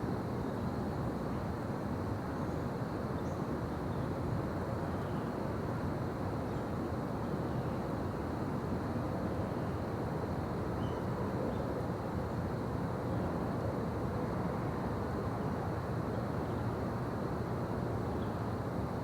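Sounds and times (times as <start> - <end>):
low rushing background noise: 0.0 - 19.0.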